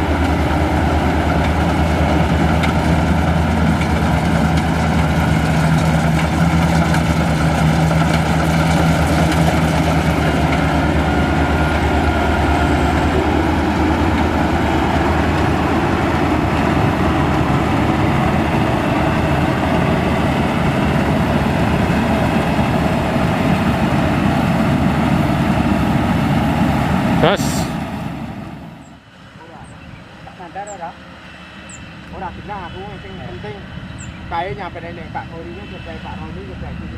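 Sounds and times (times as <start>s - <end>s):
combine harvester engine hum: 0.0s - 36.9s.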